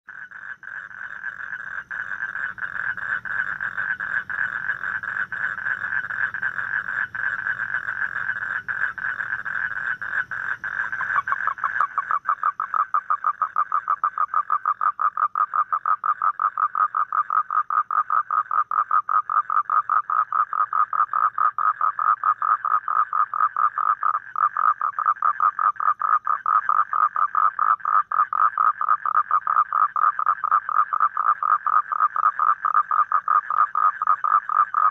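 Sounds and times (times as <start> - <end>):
toad trilling: 0.1 - 34.9.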